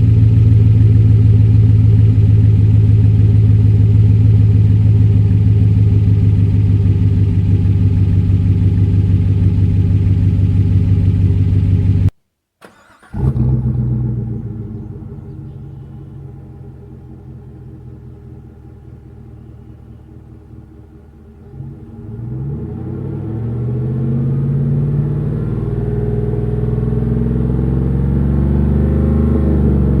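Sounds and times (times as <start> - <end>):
engine exhaust running steadily: 0.0 - 12.2, 13.1 - 30.0.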